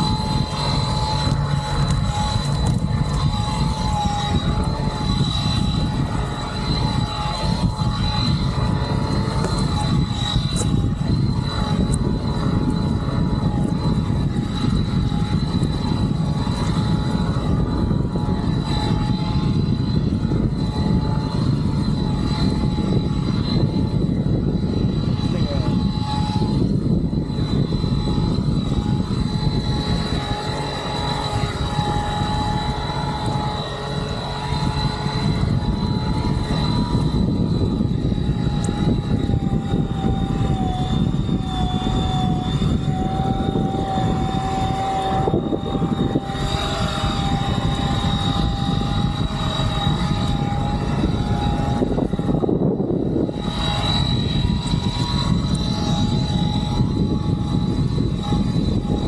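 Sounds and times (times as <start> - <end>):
electric motor whine: 0.0 - 59.0.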